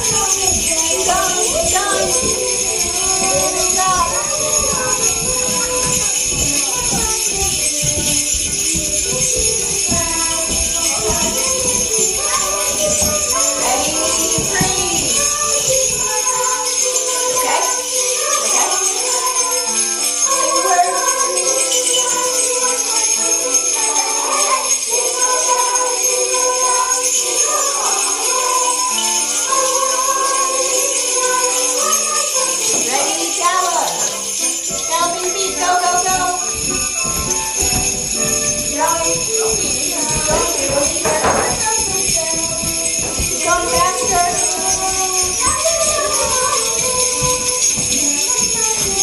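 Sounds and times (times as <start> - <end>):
sleigh bells jingling: 0.0 - 49.0.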